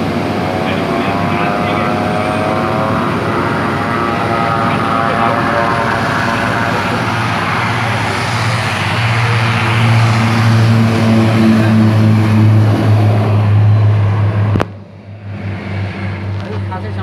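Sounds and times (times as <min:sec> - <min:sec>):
turboprop engines at high power: 0:00.0 - 0:17.0.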